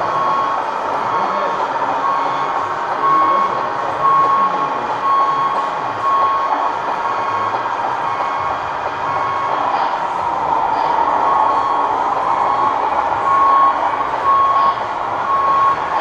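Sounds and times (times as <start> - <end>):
reversing beeper: 0.0 - 16.0
steady background hum: 0.0 - 16.0.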